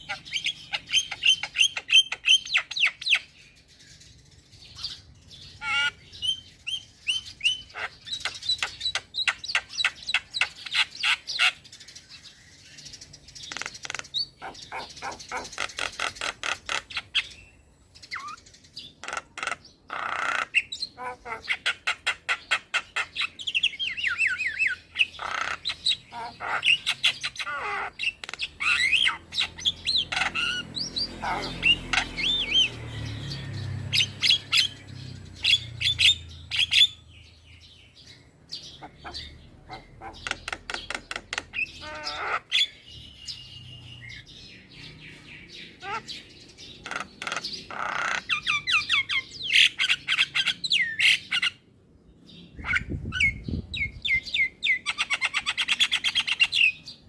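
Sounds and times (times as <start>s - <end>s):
myna bird singing: 0.0s - 57.0s.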